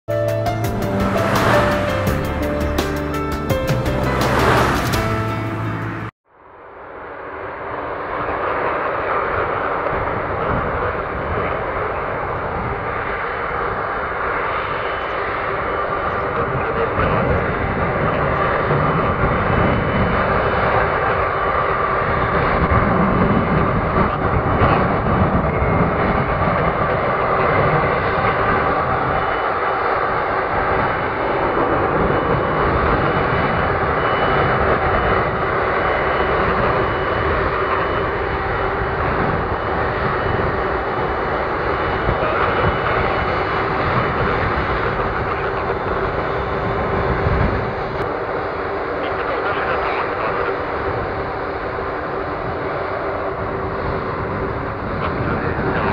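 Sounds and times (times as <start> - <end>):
jet engines whining: 0.2 - 55.9.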